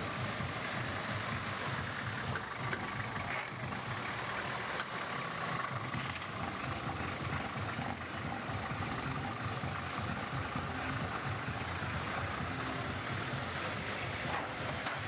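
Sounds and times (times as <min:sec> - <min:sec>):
off-road vehicle engine rumbling: 0:00.0 - 0:15.0.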